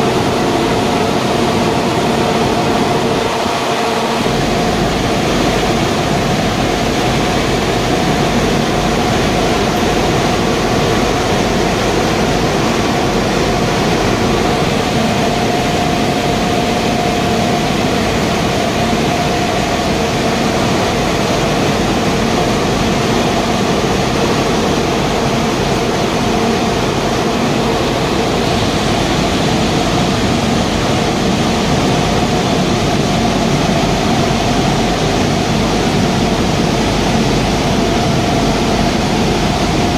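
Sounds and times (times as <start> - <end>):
constant machine whine: 0.0 - 39.9
loud steady machine noise: 0.0 - 39.9.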